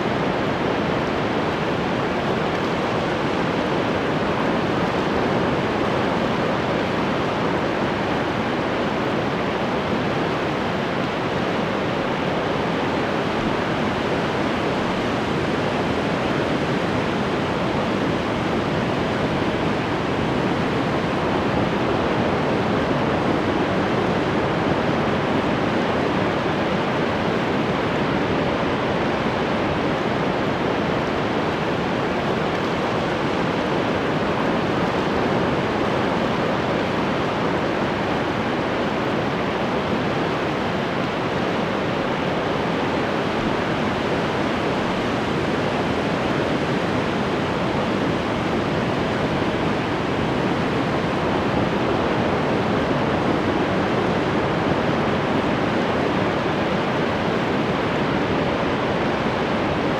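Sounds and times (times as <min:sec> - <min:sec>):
ocean surf washing: 0:00.0 - 0:59.9.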